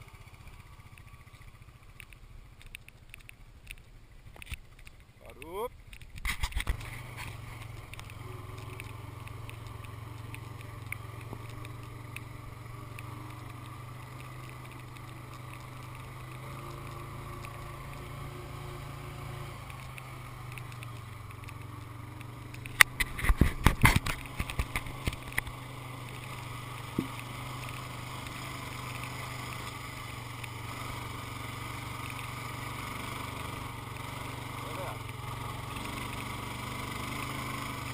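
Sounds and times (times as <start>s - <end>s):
atv engine droning: 0.0s - 37.9s.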